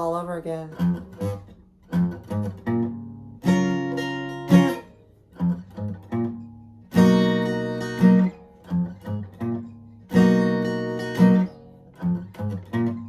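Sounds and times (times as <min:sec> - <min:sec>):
guitar plucked riff: 0:00.0 - 0:13.0
ringing guitar chords: 0:00.0 - 0:13.0.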